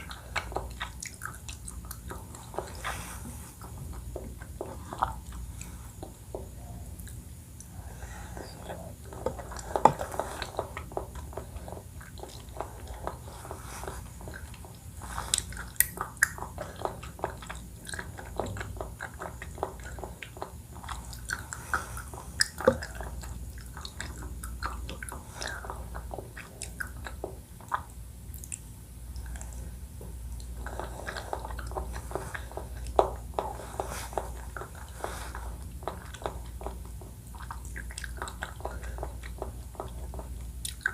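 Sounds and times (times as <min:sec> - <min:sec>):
chewing with wet mouth clicks: 0:00.0 - 0:07.8, 0:08.4 - 0:40.9.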